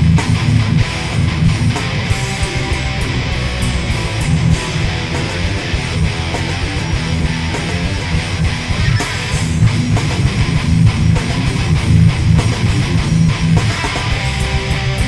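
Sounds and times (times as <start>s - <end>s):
bass guitar: 0.0s - 15.0s
distorted electric guitars: 0.0s - 15.0s
drum kit: 0.0s - 15.0s
rock band playing live: 0.0s - 15.0s.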